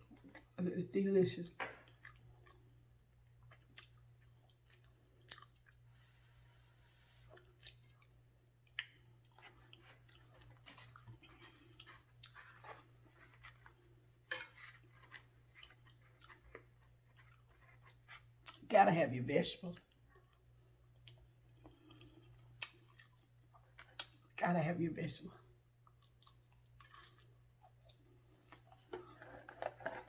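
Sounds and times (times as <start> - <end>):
faint chewing: 0.0 - 0.6, 1.4 - 18.7, 19.8 - 24.4, 25.5 - 30.0.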